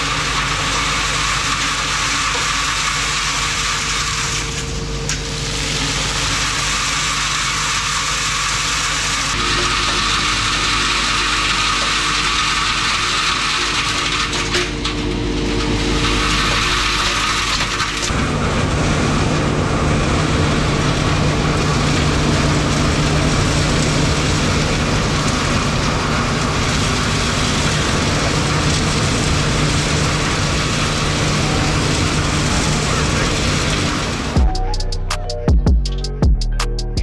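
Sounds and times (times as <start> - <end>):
blower rushing air and chips: 0.0 - 37.0
machine hum: 0.0 - 37.0.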